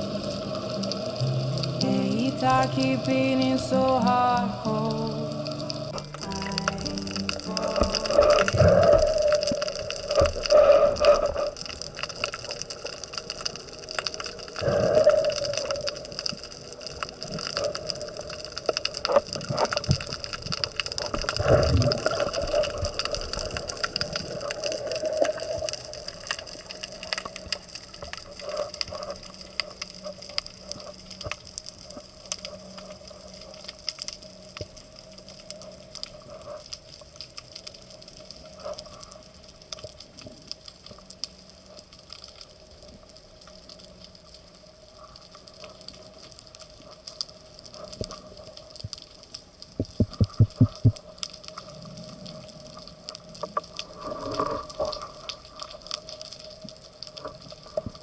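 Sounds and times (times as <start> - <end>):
underwater crackle of snapping shrimp: 0.0 - 1.2, 6.2 - 58.0.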